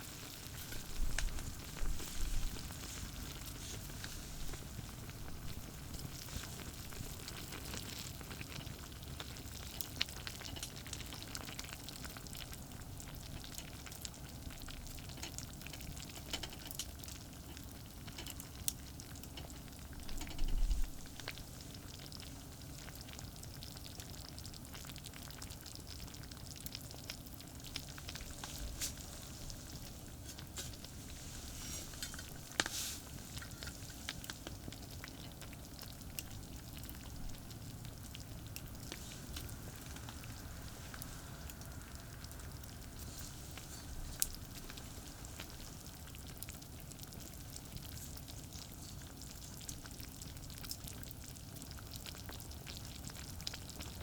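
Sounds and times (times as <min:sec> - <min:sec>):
fire popping: 0:00.0 - 0:54.0
food sizzling over campfire: 0:00.0 - 0:54.0.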